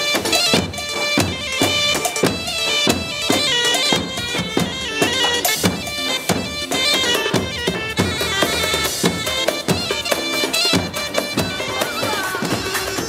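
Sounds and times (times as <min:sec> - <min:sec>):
shrill reed wind instrument melody: 0:00.0 - 0:13.0.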